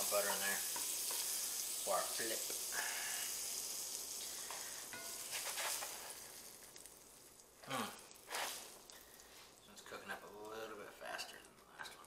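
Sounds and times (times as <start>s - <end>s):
butter sizzling in skillet: 0.0s - 12.0s.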